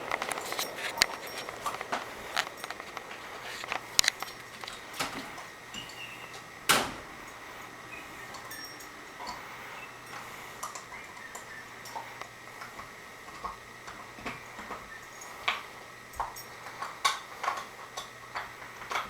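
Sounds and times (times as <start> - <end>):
ceiling fan whir: 0.0 - 19.0.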